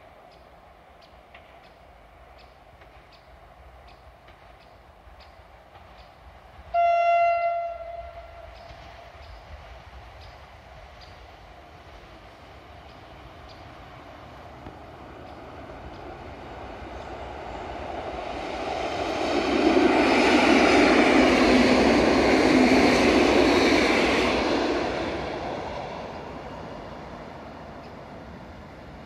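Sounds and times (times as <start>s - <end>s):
electric train passing by: 0.0s - 29.0s.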